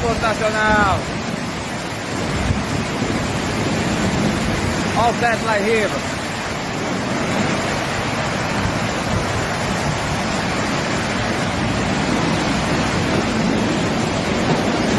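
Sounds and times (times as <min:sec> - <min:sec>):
rain and wind storm: 0:00.0 - 0:14.9.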